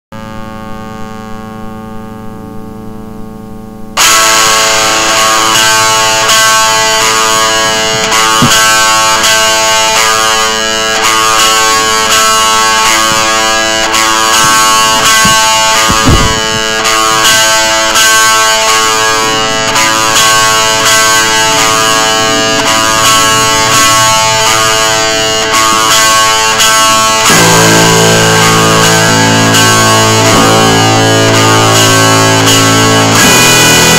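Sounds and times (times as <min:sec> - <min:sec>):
distorted guitar music: 0:00.2 - 0:33.9.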